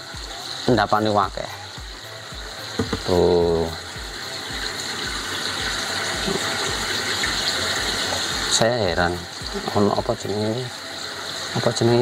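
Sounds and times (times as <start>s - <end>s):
pond pump running: 0.0s - 12.0s
water rushing through filter: 0.0s - 12.0s.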